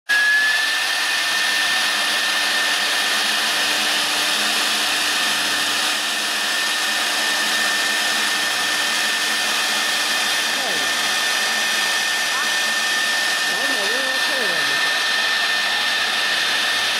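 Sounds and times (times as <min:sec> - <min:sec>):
spindle whine: 0:00.1 - 0:16.9.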